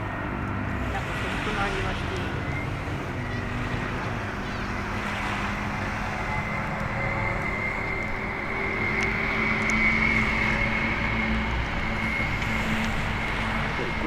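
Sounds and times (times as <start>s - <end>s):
distant engine hum: 0.0s - 14.0s.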